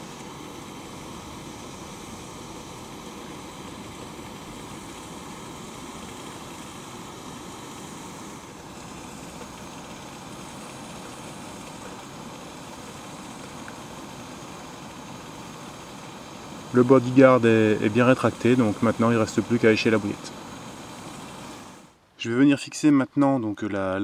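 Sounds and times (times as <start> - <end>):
gas stove burner hissing: 0.0 - 22.0.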